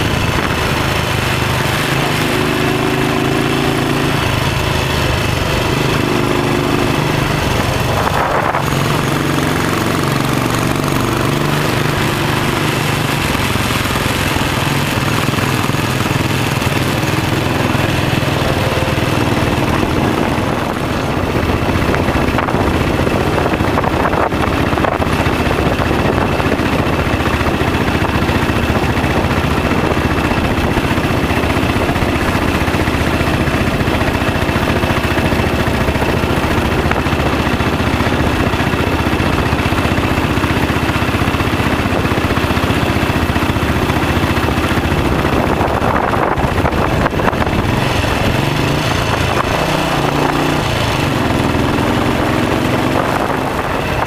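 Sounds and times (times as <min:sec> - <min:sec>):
motorcycle engine running: 0:00.0 - 0:54.0
wind rushing over microphone: 0:05.2 - 0:13.6, 0:14.2 - 0:54.0.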